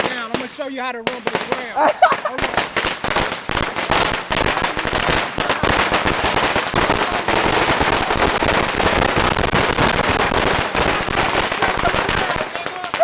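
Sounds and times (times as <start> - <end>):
firecracker string crackling: 0.0 - 13.0.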